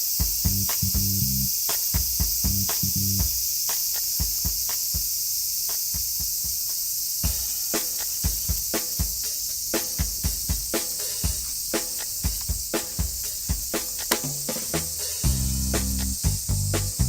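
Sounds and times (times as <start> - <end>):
insects shrilling: 0.0 - 17.0.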